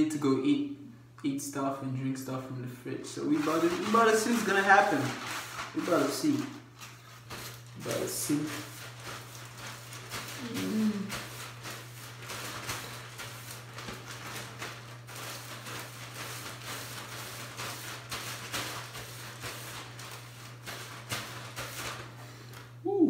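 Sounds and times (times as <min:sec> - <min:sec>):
hair brush swishing: 0:03.1 - 0:22.7.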